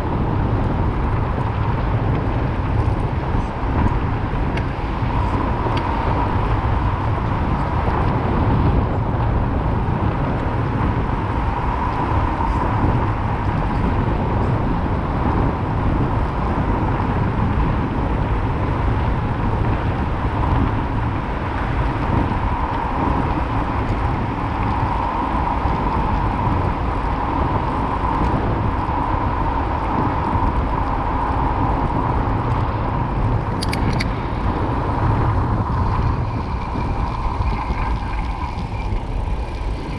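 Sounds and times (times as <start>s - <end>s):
bicycle tyres rolling on asphalt: 0.0s - 39.9s
car traffic: 0.0s - 39.9s
constant hum: 0.0s - 39.9s
wind on microphone: 0.0s - 39.9s.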